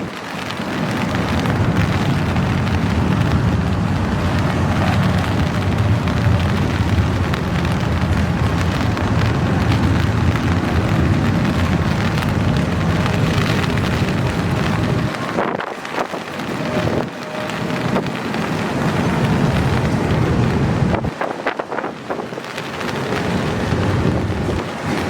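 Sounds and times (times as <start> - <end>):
freight train rumbling past: 0.0 - 25.0
rain hiss: 0.0 - 25.0.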